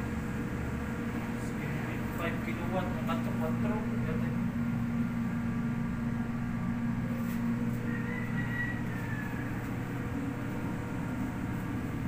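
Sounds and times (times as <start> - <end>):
engine room machinery humming: 0.0 - 12.0.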